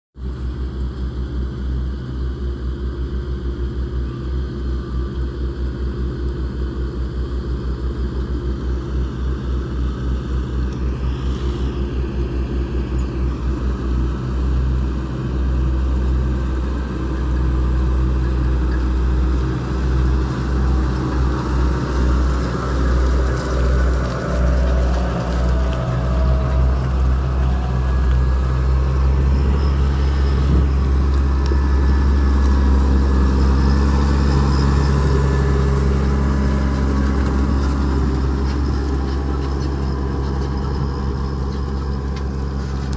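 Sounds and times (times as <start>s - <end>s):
tractor diesel engines under load: 0.2s - 42.9s.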